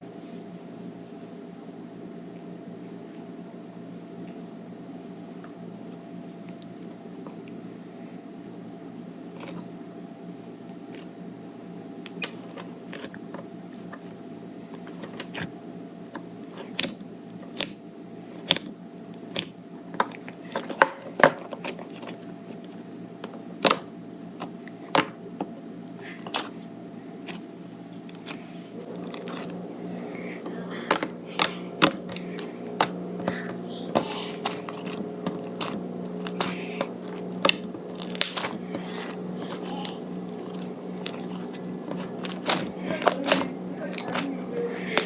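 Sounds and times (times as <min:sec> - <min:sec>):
steady background hum: 0:00.0 - 0:45.0.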